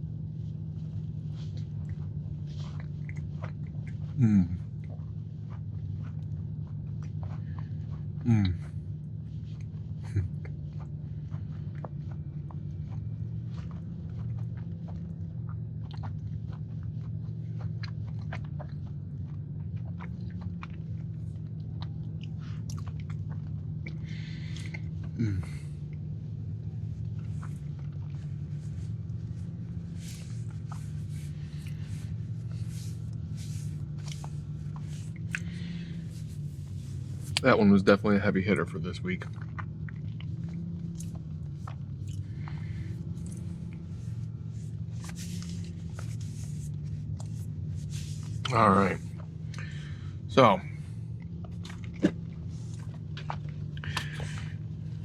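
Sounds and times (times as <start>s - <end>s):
person chewing cookie: 0.0s - 55.0s
steady low hum: 0.0s - 55.0s.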